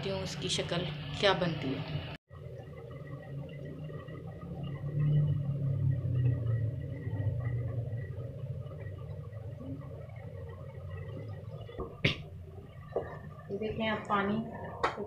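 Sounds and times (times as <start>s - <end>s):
thick liquid bubbling in a pot: 2.3s - 15.0s.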